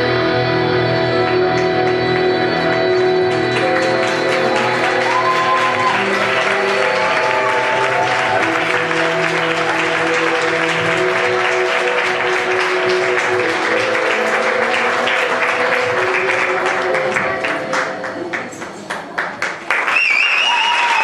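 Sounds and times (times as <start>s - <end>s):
music with held notes: 0.0s - 18.9s
audience applauding: 1.6s - 21.0s.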